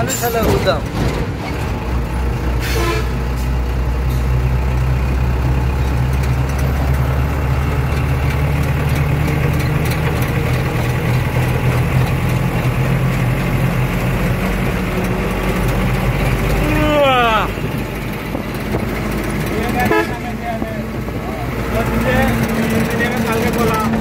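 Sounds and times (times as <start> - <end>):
truck engine droning: 0.0 - 24.0.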